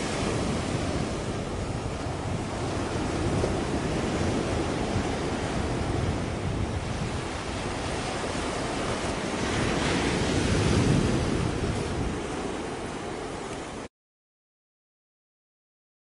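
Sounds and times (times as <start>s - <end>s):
sea waves: 0.0s - 13.9s
wind rumbling on microphone: 0.0s - 13.9s.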